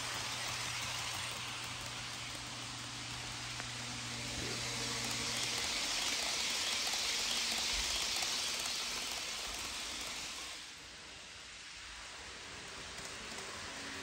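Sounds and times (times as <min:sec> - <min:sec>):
model train wheels rolling: 0:00.0 - 0:14.0.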